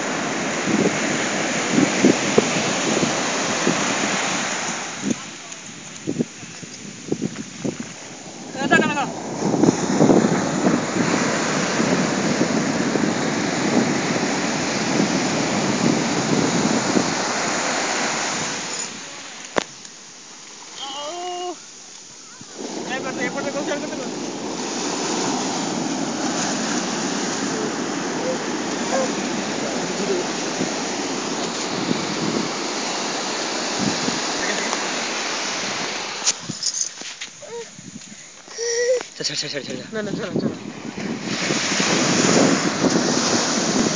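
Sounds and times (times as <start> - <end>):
wind buffeting microphone: 0.0 - 20.4, 21.1 - 43.9
ocean surf breaking: 0.0 - 43.9.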